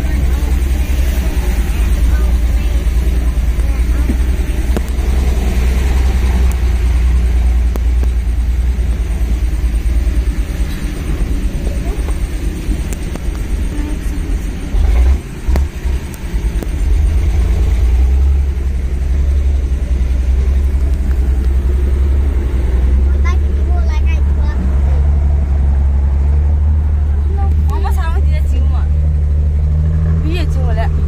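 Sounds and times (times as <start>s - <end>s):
ferry engine rumbling: 0.0s - 31.0s.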